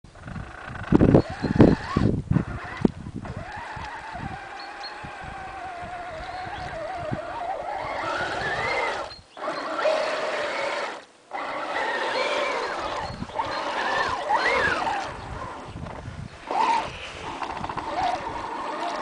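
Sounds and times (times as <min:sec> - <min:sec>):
toy car electric motor whining: 0:00.3 - 0:19.0.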